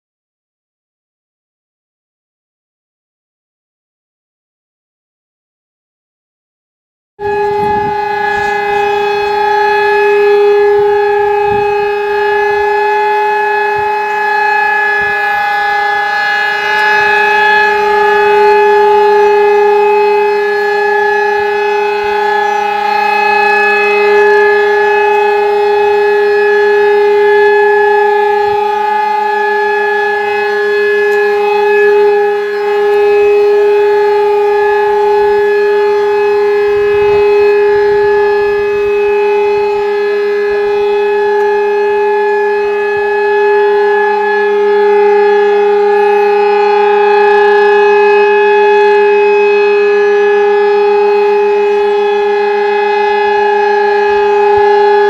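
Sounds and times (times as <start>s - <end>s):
warning siren steady tone: 7.2s - 55.0s.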